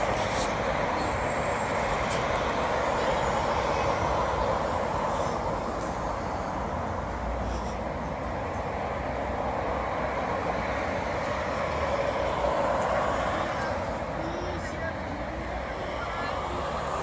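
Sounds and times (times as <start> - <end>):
road traffic hiss: 0.0 - 17.0.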